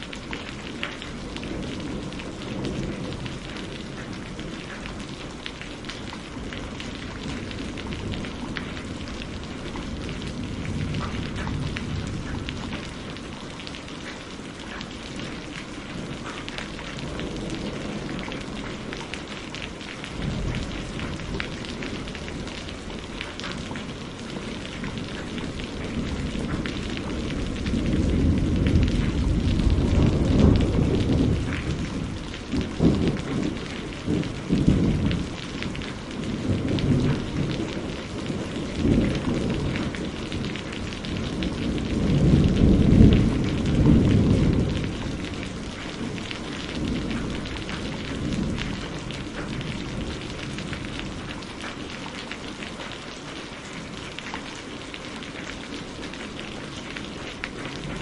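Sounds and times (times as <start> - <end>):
steady rain: 0.0 - 58.0
rolling thunder: 0.2 - 13.6, 15.1 - 51.6.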